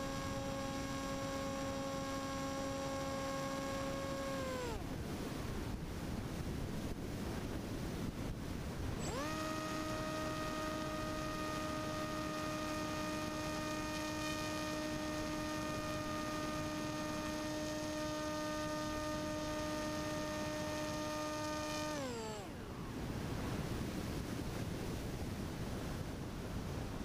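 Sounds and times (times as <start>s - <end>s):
motor and propeller humming: 0.0s - 27.0s.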